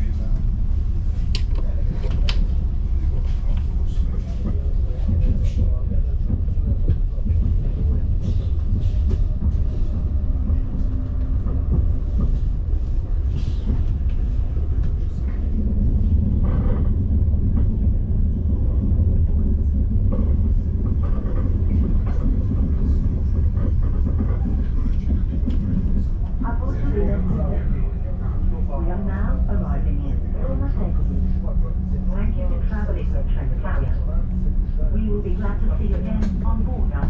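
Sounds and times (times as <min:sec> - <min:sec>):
train interior rumble: 0:00.0 - 0:37.0.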